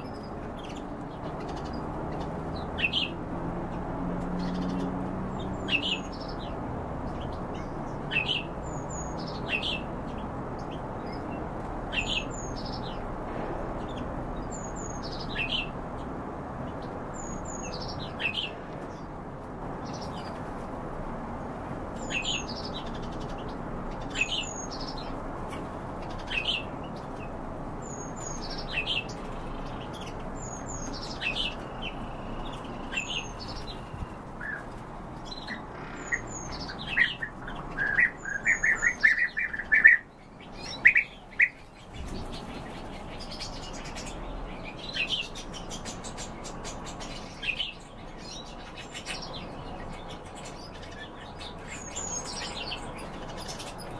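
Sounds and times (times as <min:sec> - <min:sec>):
birds chirping: 0:00.0 - 0:13.2, 0:13.8 - 0:20.8, 0:21.5 - 0:53.9.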